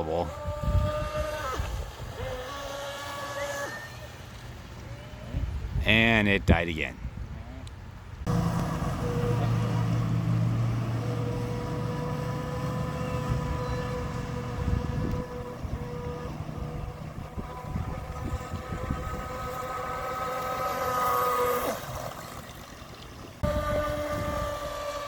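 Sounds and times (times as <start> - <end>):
rc boat motor whining: 0.0 - 5.6, 8.2 - 25.0.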